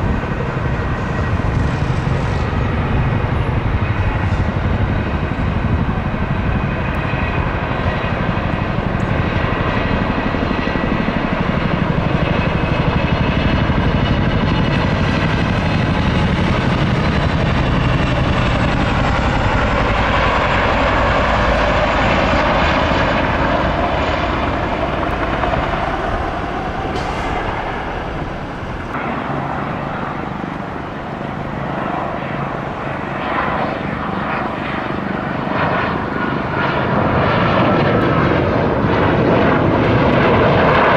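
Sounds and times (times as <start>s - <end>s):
aircraft engines roaring: 0.0s - 40.9s.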